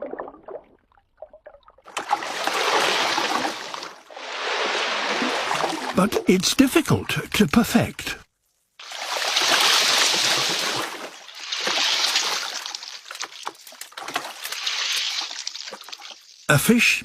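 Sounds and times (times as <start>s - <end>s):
water sloshing and splashing: 0.0s - 6.9s, 8.4s - 16.5s.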